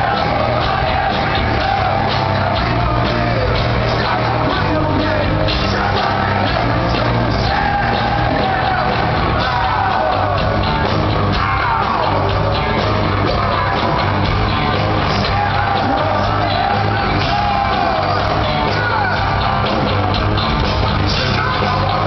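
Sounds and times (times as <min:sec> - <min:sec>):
hard rock band playing: 0:00.0 - 0:22.0.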